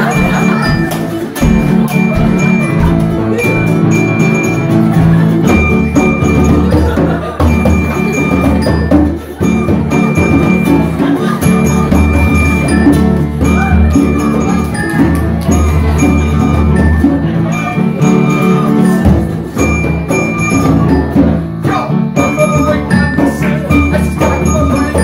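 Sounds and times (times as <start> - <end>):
hand drum: 0.0 - 25.0
ukulele playing: 0.0 - 25.0
upright piano: 0.0 - 25.0.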